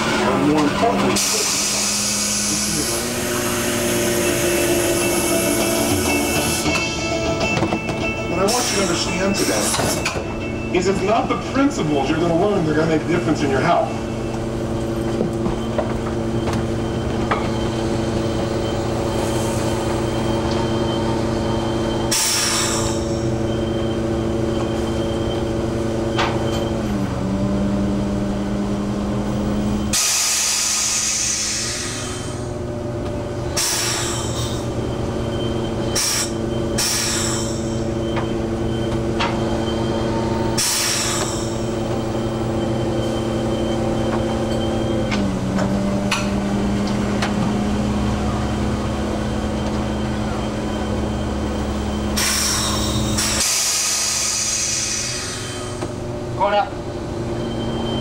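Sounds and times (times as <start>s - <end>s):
hydraulic hauler mechanical whine: 0.0s - 58.0s.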